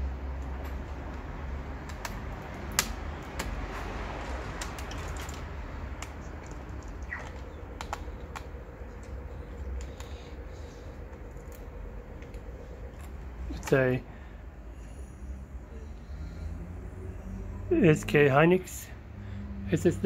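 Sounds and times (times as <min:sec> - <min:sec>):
low hum: 0:00.0 - 0:17.7.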